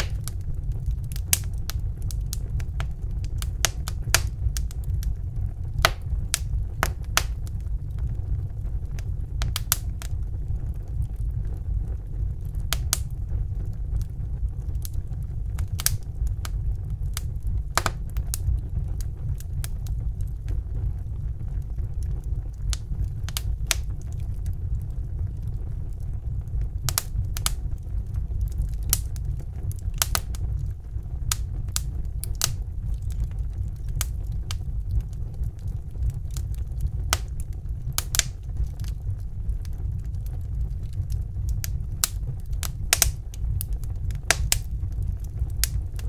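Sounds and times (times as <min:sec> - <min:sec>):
low rumble: 0:00.0 - 0:46.0
wood fire crackling: 0:00.0 - 0:46.0.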